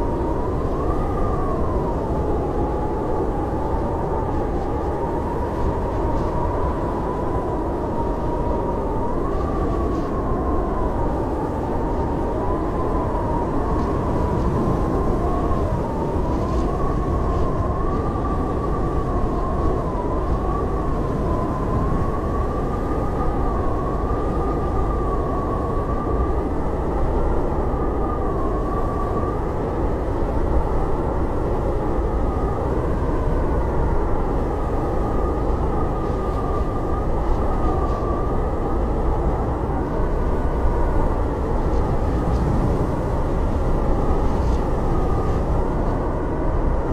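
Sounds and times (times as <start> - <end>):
blizzard wind howling: 0.0 - 46.9.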